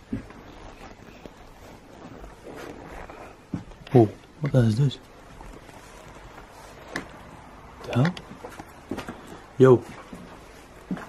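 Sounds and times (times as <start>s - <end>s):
faint footsteps: 0.0s - 11.0s
low steady hiss: 0.0s - 11.0s
rustling: 0.0s - 11.0s.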